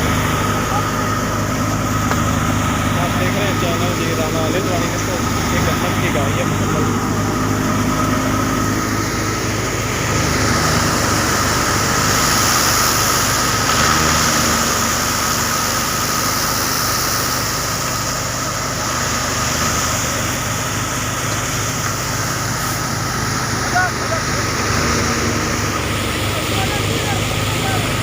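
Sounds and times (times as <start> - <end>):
steady whine and hiss: 0.0 - 28.0
tractor engine running: 0.0 - 28.0.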